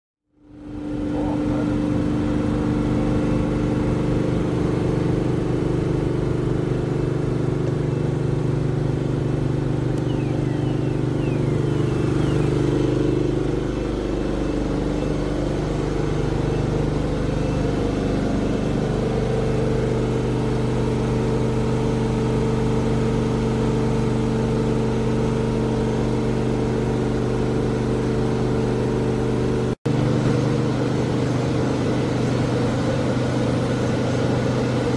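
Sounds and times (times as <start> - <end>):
higher machinery hum: 0.3 - 34.9
ship engine machinery drone: 0.3 - 34.9.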